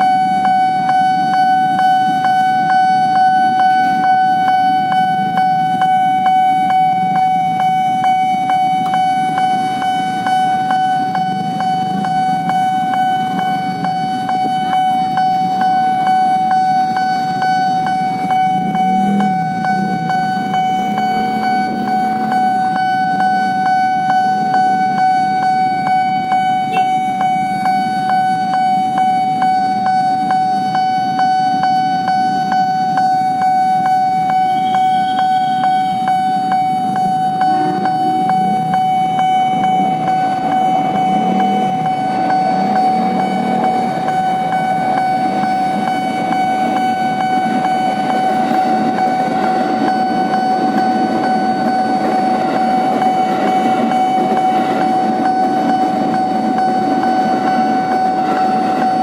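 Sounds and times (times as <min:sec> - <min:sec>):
level crossing warning bell: 0:00.0 - 0:59.0
road traffic: 0:00.0 - 0:59.0.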